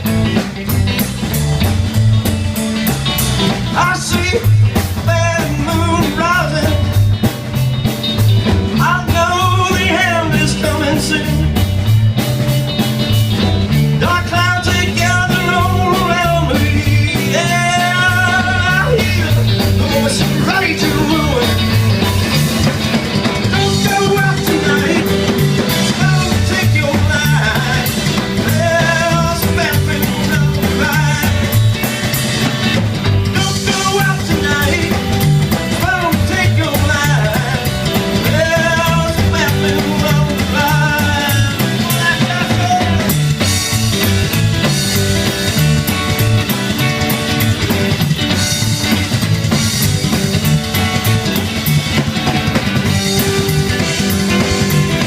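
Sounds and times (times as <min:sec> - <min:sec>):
drum beat: 0:00.0 - 0:55.0
pitch-bending lead guitar line: 0:00.0 - 0:55.0
rock band playing: 0:00.0 - 0:55.0.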